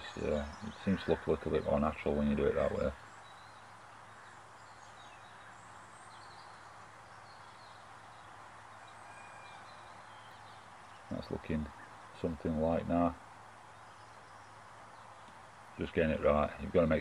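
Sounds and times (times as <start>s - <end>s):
distant small birds calling: 0.0s - 17.0s
outdoor background hiss: 0.0s - 17.0s.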